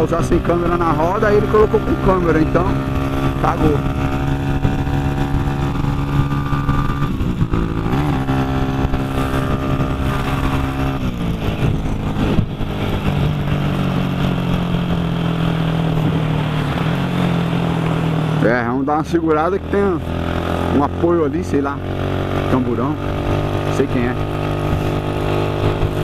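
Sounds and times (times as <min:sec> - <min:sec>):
motorcycle engine running: 0:00.0 - 0:26.0
rushing wind: 0:00.0 - 0:26.0.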